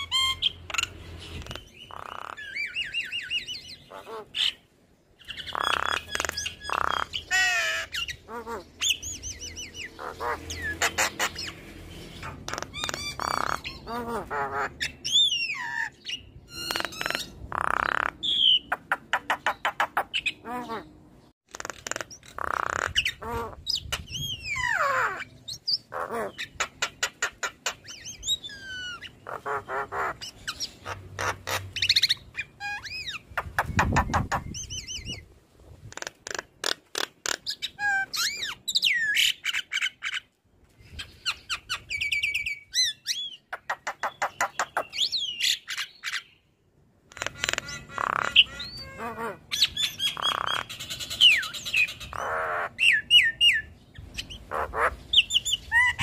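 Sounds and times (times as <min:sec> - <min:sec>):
bird chattering song: 0:00.0 - 0:35.2, 0:35.9 - 0:56.0.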